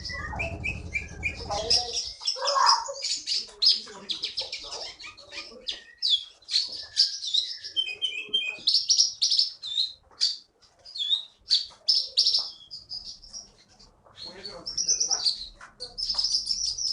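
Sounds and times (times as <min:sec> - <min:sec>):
songbird chirping and trilling: 0:00.0 - 0:16.9.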